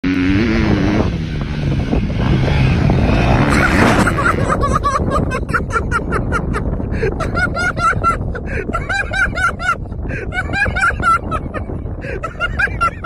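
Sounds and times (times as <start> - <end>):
wind rumble on microphone: 0.1 - 13.0.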